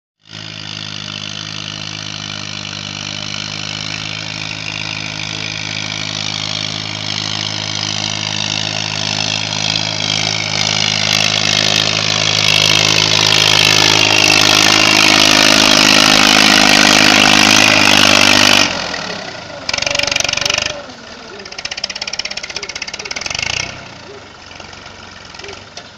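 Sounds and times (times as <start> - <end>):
tractor diesel engine running: 0.2 - 25.9.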